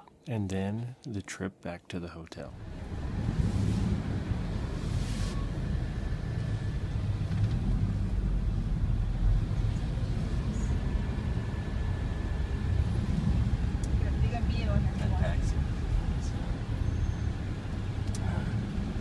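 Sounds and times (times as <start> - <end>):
engine and road noise: 2.5 - 19.0.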